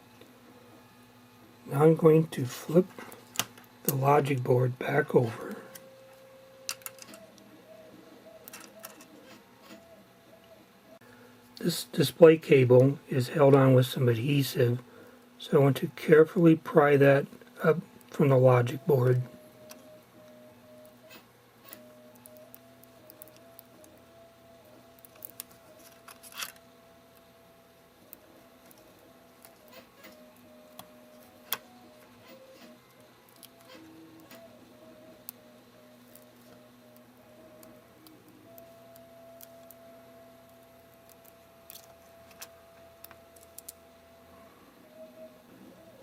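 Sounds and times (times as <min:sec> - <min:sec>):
steady faint hum: 0:00.0 - 0:46.0.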